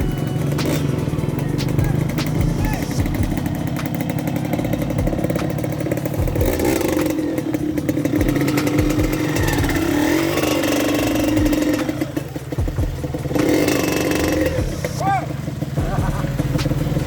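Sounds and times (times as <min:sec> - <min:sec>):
low thumps: 0:00.0 - 0:15.0
motorcycle engine revving: 0:00.0 - 0:17.0.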